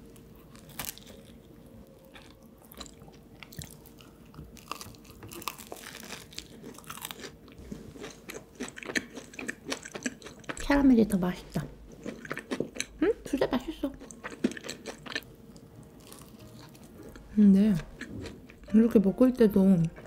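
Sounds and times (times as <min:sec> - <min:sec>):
crunchy pastry chewing: 0:00.0 - 0:10.7, 0:11.9 - 0:18.7.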